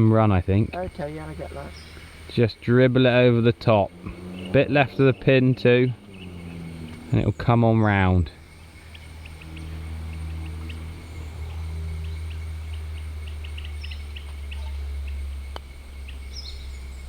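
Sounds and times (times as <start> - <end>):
insects and birds chirping: 0.0 - 17.0
steady low hum: 0.0 - 17.0.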